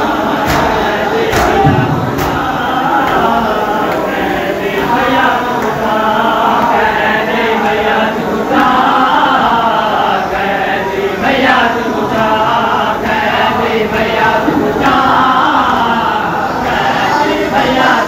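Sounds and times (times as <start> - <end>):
men chanting in chorus: 0.0 - 18.0.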